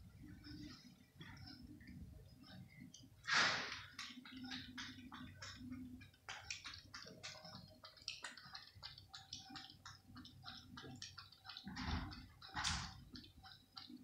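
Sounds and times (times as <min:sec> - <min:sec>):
cat lapping milk: 0:00.2 - 0:14.0.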